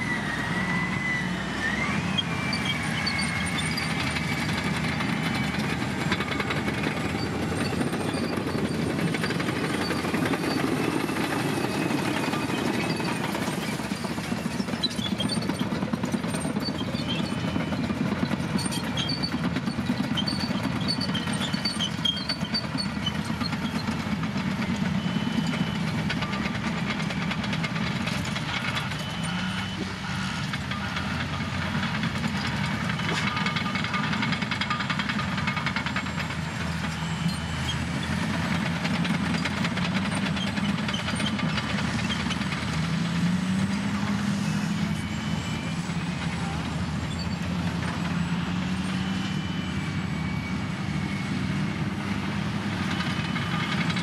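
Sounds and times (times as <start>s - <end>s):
heavy diesel engines droning: 0.0s - 54.0s.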